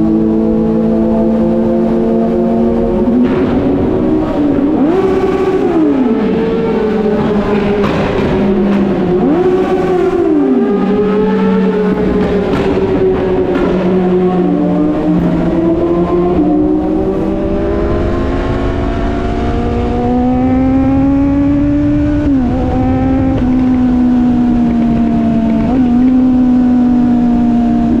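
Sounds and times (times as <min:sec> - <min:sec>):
motorcycle engine revving: 0:00.0 - 0:28.0
wind on microphone: 0:02.8 - 0:28.0.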